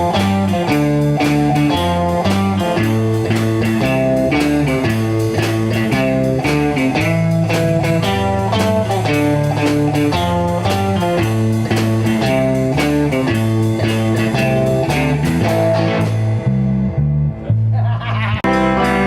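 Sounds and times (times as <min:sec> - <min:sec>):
blues-rock band playing: 0:00.0 - 0:17.7, 0:18.4 - 0:19.0.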